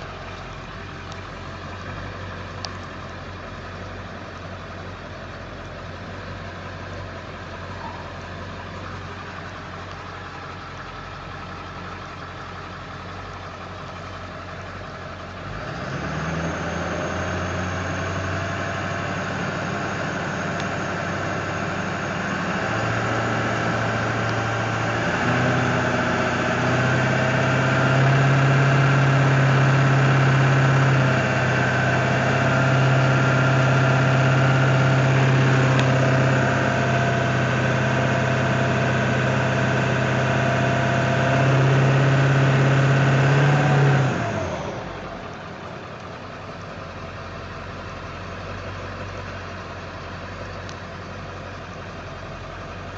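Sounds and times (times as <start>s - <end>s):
diesel engine idling: 0.0s - 52.9s
engine shutting off: 0.0s - 52.9s.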